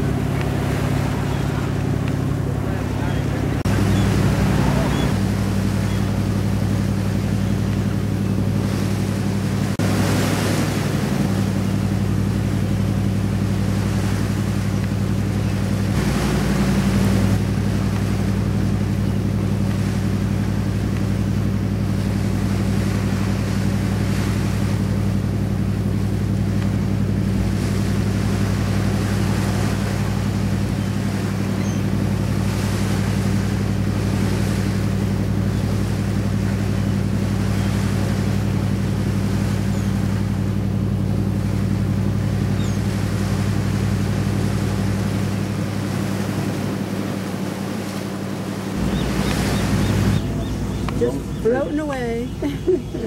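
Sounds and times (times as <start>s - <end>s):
boat engine droning: 0.0s - 53.0s
water and wind rushing: 0.0s - 53.0s.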